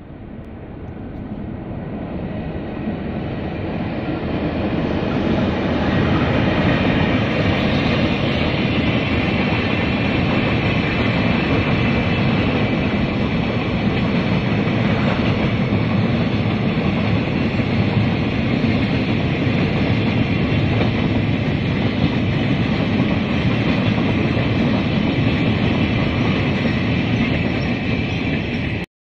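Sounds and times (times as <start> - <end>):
train wheels on rails: 0.0 - 28.9.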